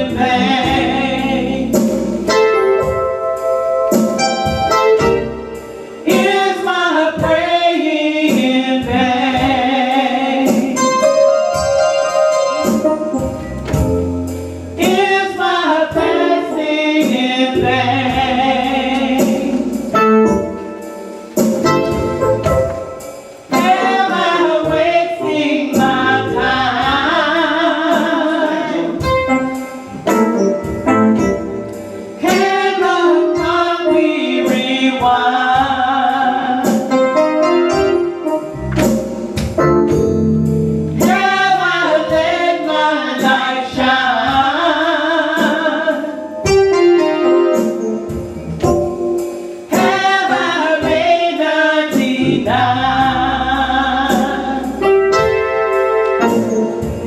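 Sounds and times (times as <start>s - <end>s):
gospel singing: 0.0s - 57.0s
instrumental accompaniment with beat: 0.0s - 57.0s.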